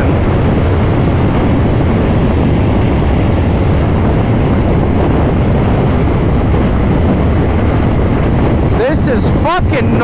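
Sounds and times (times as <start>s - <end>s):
motorcycle riding noise: 0.0s - 10.0s
wind buffeting microphone: 0.0s - 10.0s.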